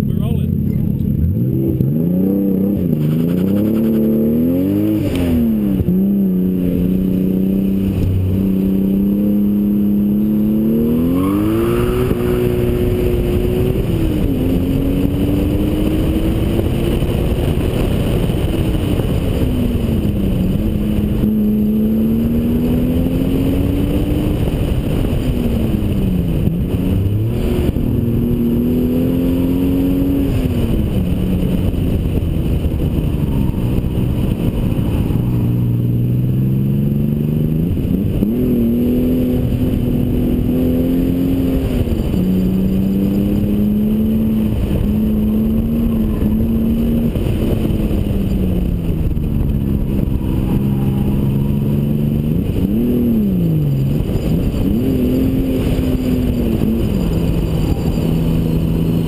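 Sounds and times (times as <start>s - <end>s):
car engine accelerating: 0.0s - 59.0s
wind and road noise: 0.0s - 59.0s.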